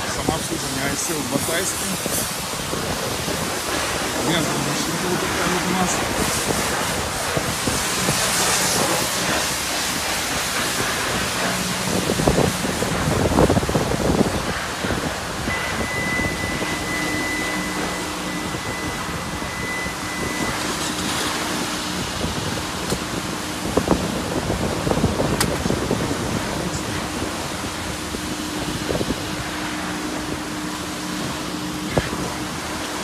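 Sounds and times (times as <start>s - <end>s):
car wash machinery rushing: 0.0s - 33.0s
high whine: 0.0s - 33.0s.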